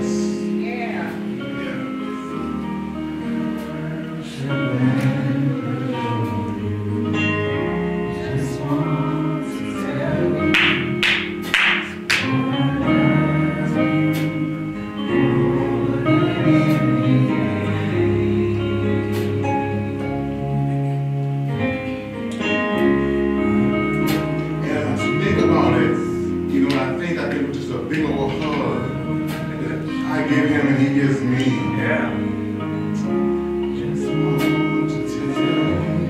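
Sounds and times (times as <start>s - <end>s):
instrumental accompaniment: 0.0s - 36.0s
voices singing: 0.0s - 36.0s.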